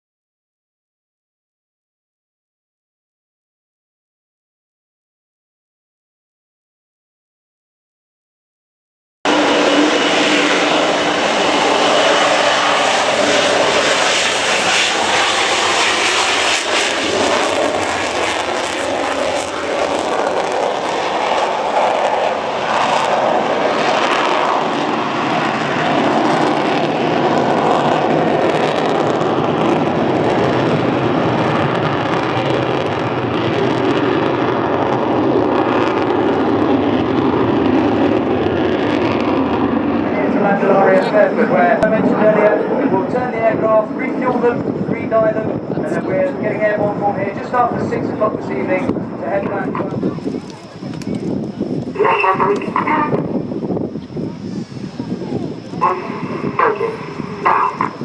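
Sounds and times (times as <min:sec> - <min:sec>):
aircraft engine rushing: 0:09.3 - 0:58.0
faint engine whine: 0:09.3 - 0:58.0.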